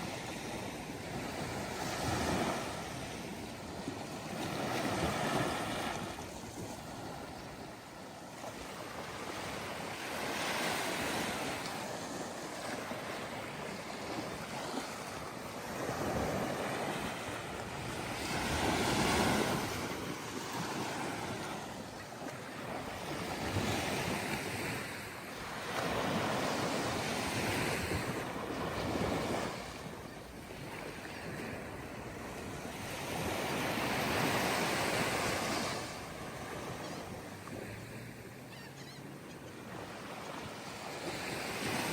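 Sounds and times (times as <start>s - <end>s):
waves breaking on beach: 0.0s - 41.9s.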